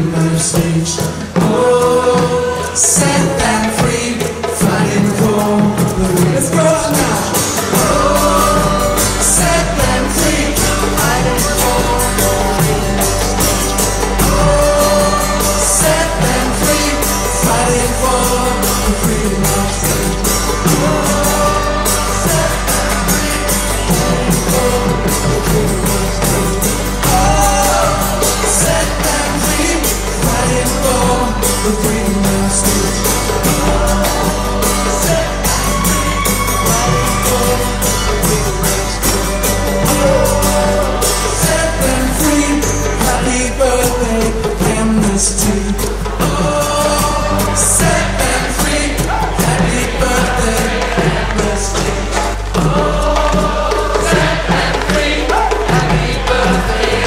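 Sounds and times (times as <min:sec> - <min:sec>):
acoustic guitar strumming: 0:00.0 - 0:57.0
hand percussion beat: 0:00.0 - 0:57.0
people singing: 0:00.0 - 0:57.0.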